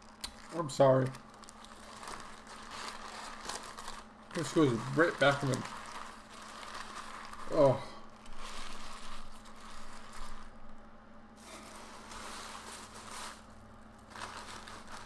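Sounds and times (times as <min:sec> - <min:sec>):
bag rustling: 0:00.0 - 0:10.8, 0:11.4 - 0:15.0
paper wrapping rustling: 0:00.0 - 0:15.0.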